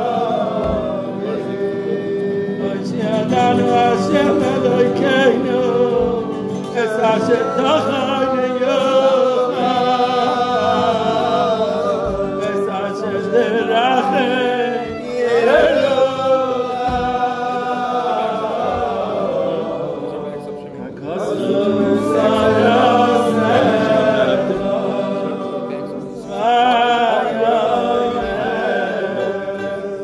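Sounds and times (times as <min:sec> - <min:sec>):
group of voices singing: 0:00.0 - 0:30.0.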